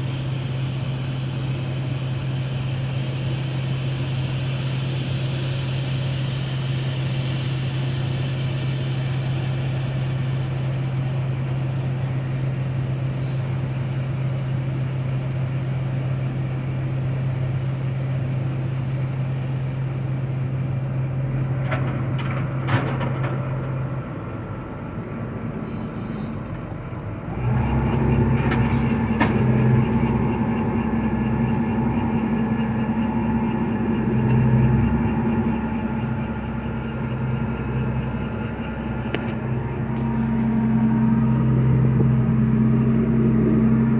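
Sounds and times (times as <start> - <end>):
large engine humming: 0.0 - 43.9
louder higher engine hum: 0.0 - 43.9.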